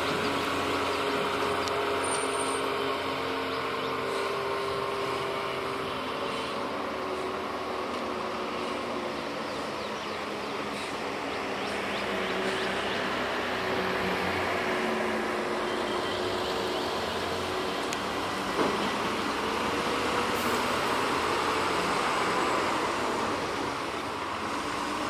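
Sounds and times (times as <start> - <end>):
road noise: 0.0 - 25.0.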